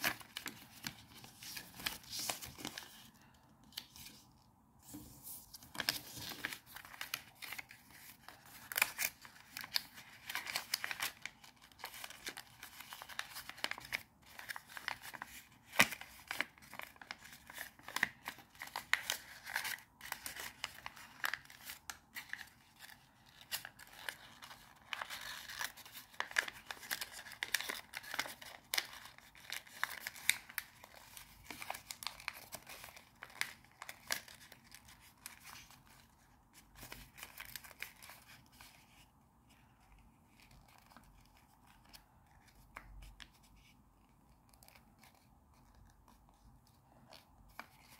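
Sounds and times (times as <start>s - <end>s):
paper rustling and crinkling: 0.0s - 47.9s.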